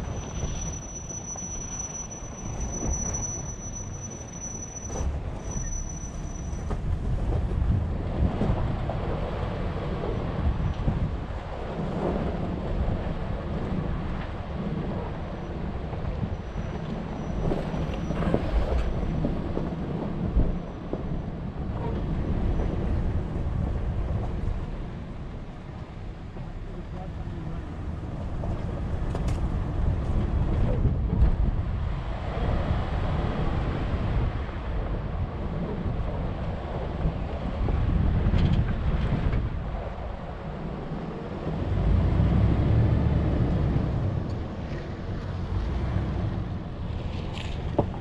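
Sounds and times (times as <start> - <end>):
wind noise on microphone: 0.0 - 48.0.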